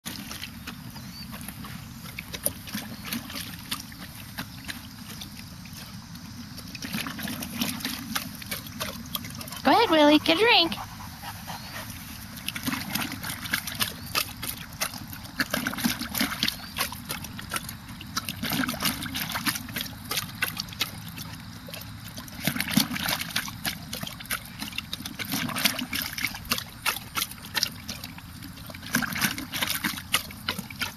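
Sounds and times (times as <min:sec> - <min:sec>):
dog splashing water in bowl: 0:00.0 - 0:30.9.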